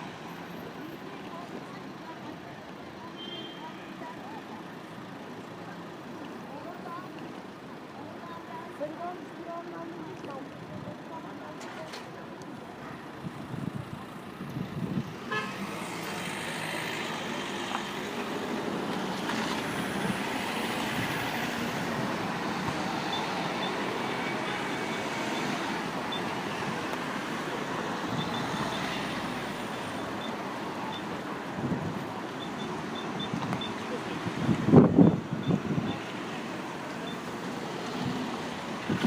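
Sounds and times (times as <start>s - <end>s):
traffic rushing: 0.0s - 39.0s.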